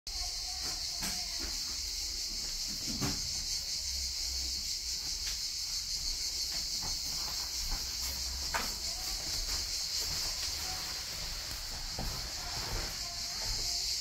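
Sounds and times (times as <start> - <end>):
high-pitched insect buzzing: 0.1 - 14.0.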